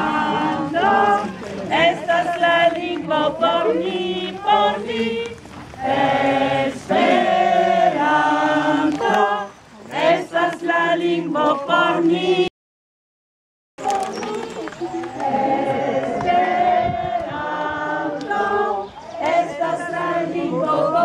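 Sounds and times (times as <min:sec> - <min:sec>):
choir singing: 0:00.0 - 0:12.5, 0:13.8 - 0:21.0.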